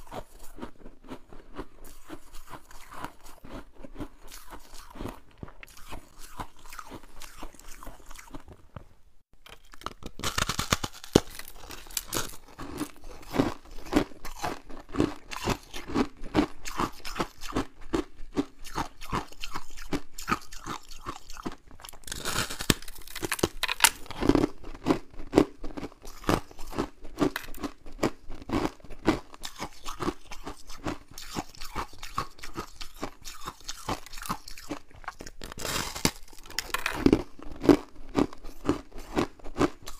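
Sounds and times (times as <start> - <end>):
frost being chewed: 0.0 - 8.8, 9.4 - 39.9.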